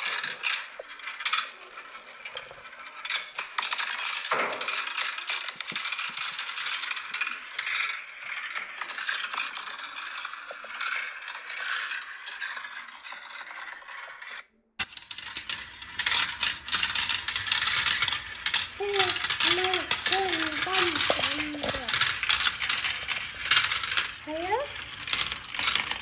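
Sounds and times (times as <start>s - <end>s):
marbles rattling down plastic track: 0.0s - 26.0s.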